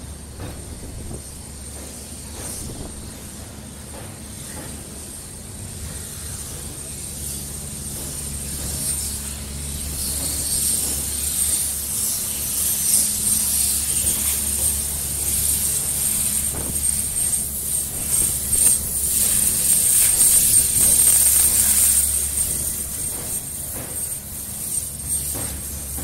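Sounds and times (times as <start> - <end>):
train rumbling and hissing: 0.0 - 26.0.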